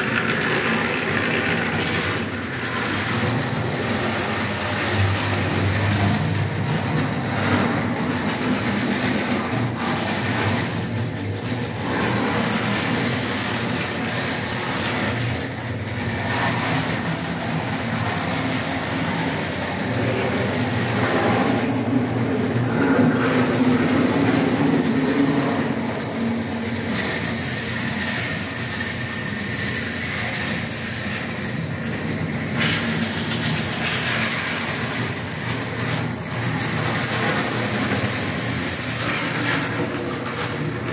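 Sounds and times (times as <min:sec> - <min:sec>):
high-pitched whine: 0:00.0 - 0:40.9
model train mechanical hum: 0:00.0 - 0:40.9.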